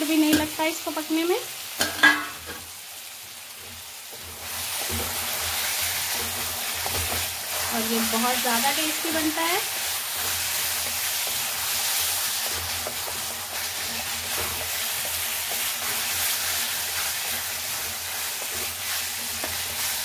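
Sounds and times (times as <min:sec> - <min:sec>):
vegetables sizzling in hot oil: 0:00.0 - 0:20.0
spatula stirring and scraping: 0:03.5 - 0:20.0.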